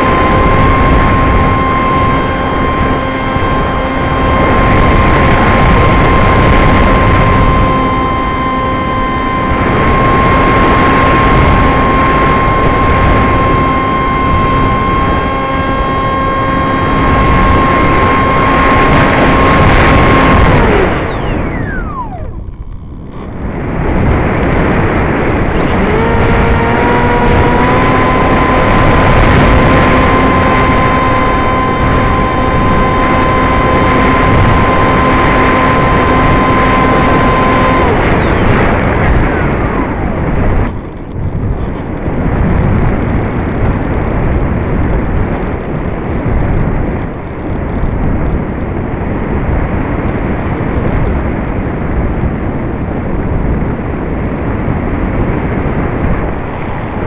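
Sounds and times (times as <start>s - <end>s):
electric motor whining: 0.0s - 47.6s, 54.3s - 57.0s
wind rushing: 0.0s - 51.7s, 53.0s - 57.0s.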